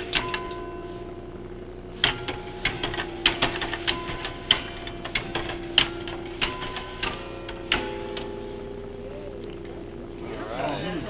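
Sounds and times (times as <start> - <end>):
tower bells ringing: 0.0 - 11.0.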